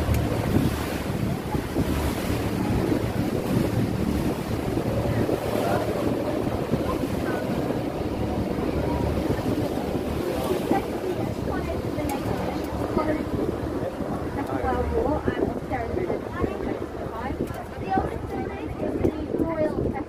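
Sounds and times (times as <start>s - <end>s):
boat engine: 0.0s - 20.0s
water rushing along hull: 0.0s - 20.0s
wind buffeting microphone: 0.0s - 20.0s.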